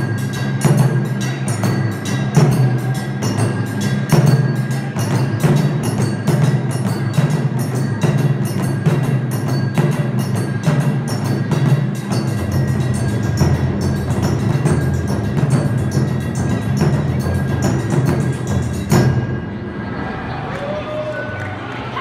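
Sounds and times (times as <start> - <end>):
taiko drums playing: 0.0 - 19.9.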